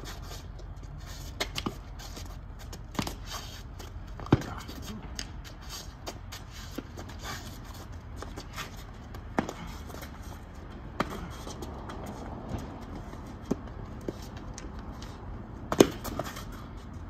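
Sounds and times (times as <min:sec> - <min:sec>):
sneakers running on asphalt: 0:00.0 - 0:15.1.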